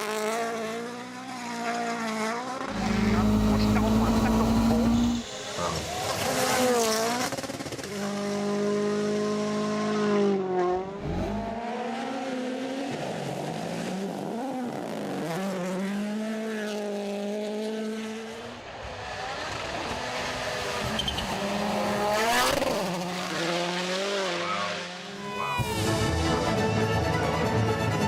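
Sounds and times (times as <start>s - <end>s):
rally car engine at speed: 0.0s - 28.0s.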